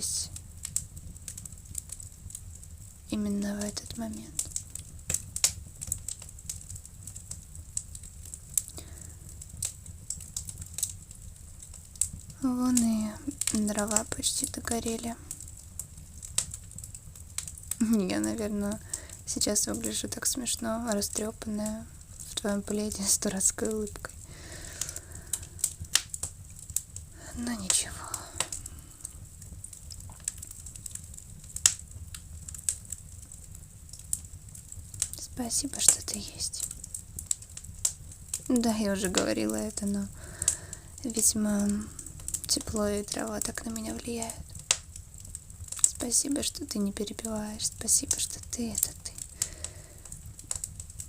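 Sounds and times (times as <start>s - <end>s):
low steady rumble: 0.0s - 51.0s
wood fire crackling: 0.0s - 51.0s.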